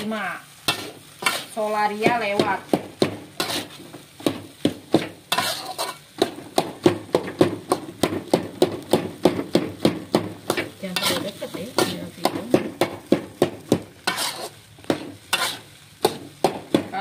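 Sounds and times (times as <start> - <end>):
metal spatula scraping a wok: 0.0 - 17.0.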